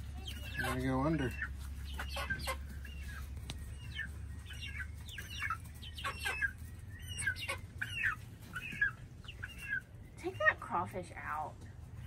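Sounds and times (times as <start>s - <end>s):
chicks calling: 0.0s - 12.0s.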